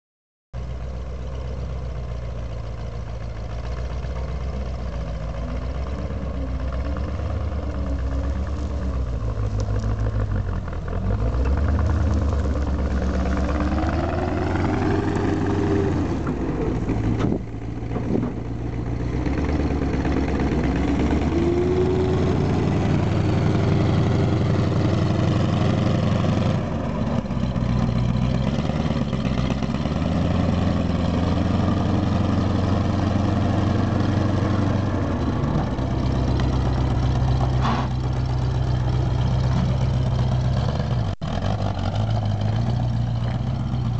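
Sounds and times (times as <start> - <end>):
armoured car engine revving: 3.5 - 43.9.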